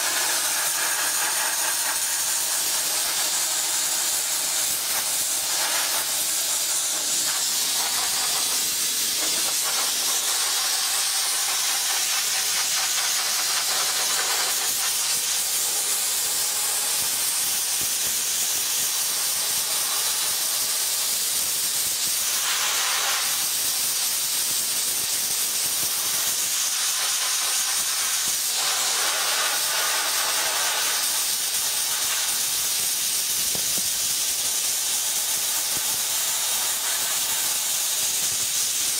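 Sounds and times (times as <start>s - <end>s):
soda blaster hissing: 0.0s - 38.9s.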